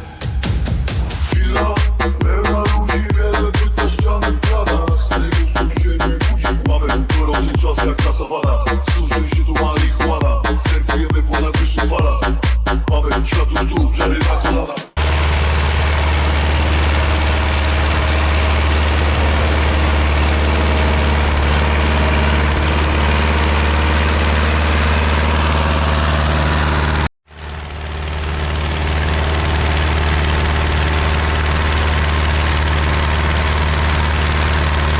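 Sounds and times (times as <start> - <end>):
tractor diesel engine under load: 1.2 - 34.9.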